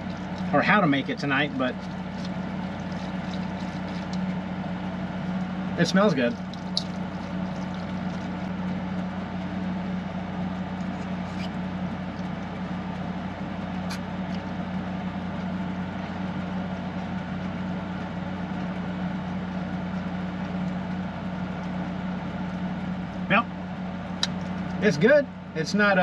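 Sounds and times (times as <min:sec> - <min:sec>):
air conditioner humming: 0:00.0 - 0:26.0.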